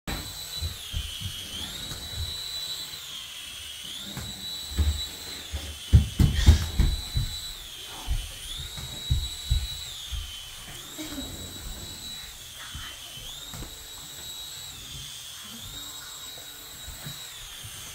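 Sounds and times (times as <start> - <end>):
toy rotor motor whining: 0.1 - 17.9.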